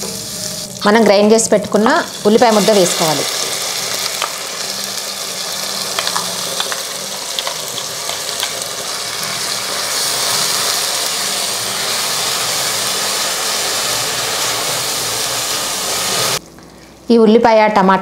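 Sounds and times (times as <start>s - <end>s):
paste sizzling in hot oil: 0.0s - 16.4s.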